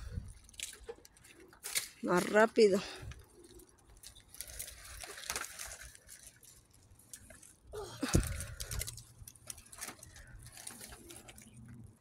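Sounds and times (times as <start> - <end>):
light rustles and clicks: 0.1 - 12.0.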